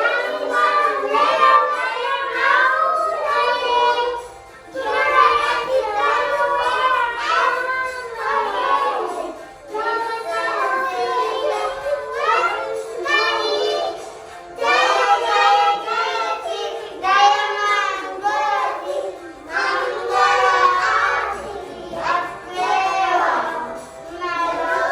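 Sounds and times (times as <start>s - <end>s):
young child singing: 0.0s - 24.9s.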